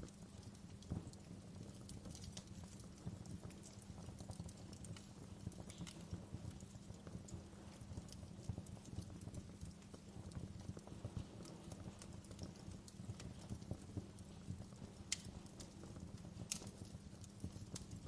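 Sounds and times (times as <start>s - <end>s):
flames rumbling: 0.0s - 18.0s
wood fire crackling: 0.0s - 18.0s.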